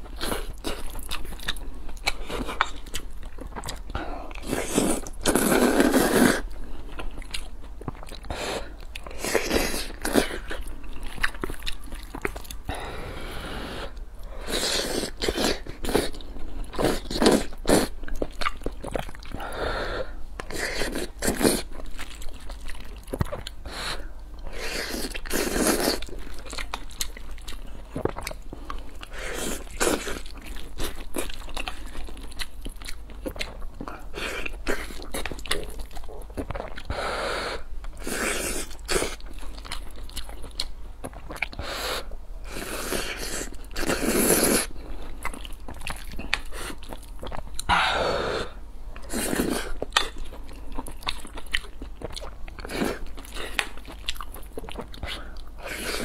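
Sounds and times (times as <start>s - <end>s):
close-miked chewing: 0.0s - 13.0s, 13.8s - 47.8s, 48.4s - 56.0s.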